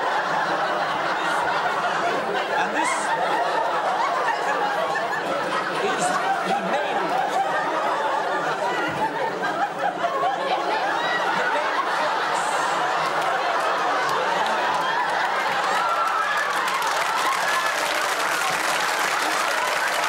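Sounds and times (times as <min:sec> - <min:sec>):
studio audience laughing: 0:00.0 - 0:20.0.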